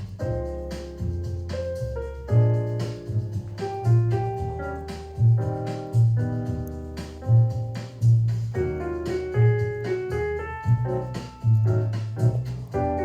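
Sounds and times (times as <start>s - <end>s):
jazz piano music: 0.0s - 13.0s
walking bass line: 0.0s - 13.0s.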